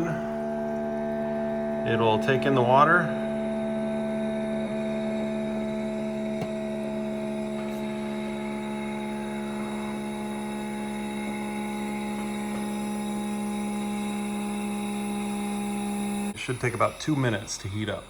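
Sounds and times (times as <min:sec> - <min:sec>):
coffee maker humming: 0:00.0 - 0:18.0.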